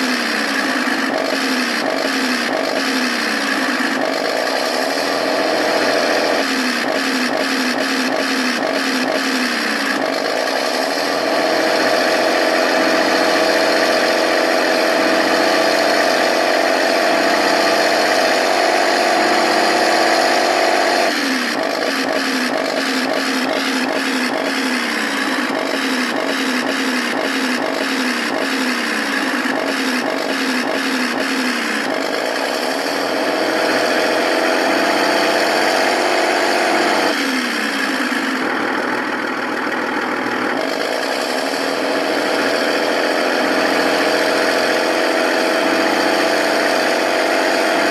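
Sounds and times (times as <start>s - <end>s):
tank engine sound effect from small speaker: 0.0s - 47.9s.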